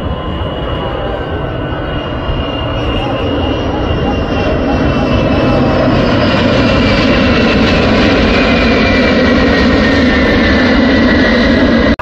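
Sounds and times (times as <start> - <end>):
jet aircraft flying overhead: 0.0 - 12.0.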